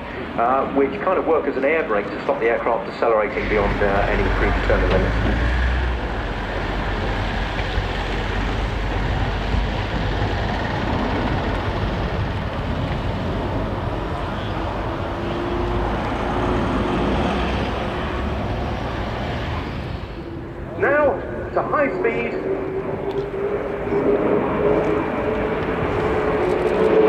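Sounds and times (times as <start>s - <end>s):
turboprop aircraft engines rumbling: 0.0s - 27.0s.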